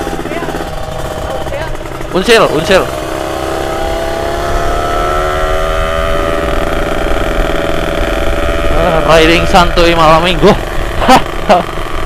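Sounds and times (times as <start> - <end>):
low rumble: 0.0 - 12.0
motorcycle engine running: 0.0 - 12.0.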